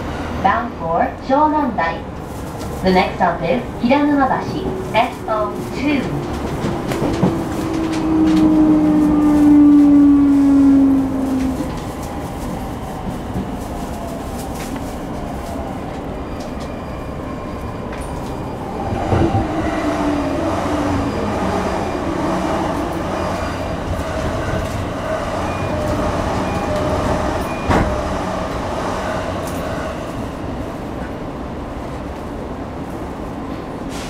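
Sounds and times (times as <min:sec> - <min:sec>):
wheel and rail noise: 0:04.4 - 0:32.3.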